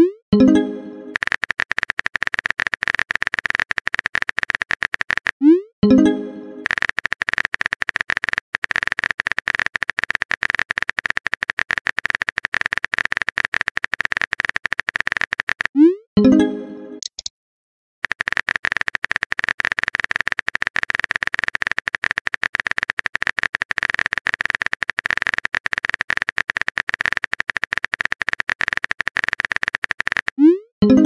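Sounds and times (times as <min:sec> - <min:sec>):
phone keyboard typing clicks: 0:01.1 - 0:05.4, 0:06.6 - 0:15.8, 0:17.0 - 0:17.3, 0:18.0 - 0:30.4.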